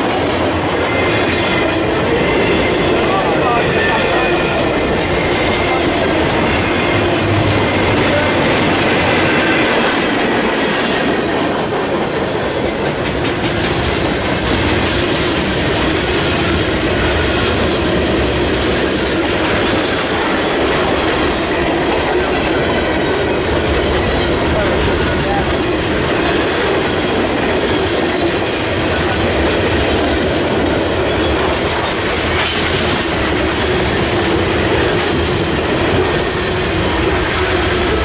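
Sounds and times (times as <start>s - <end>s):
clickety-clack over rail joints: 0.0s - 38.0s
train wheels on rails: 0.0s - 38.0s.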